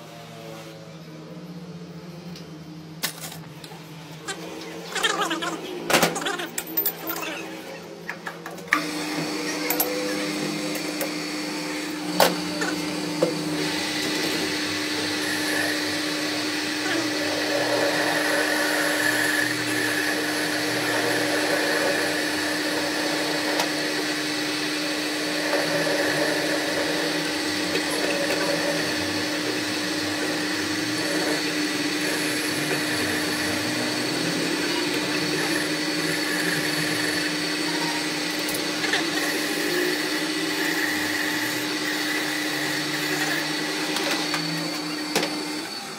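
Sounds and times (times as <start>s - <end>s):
metal lathe whirring: 0.0s - 45.9s.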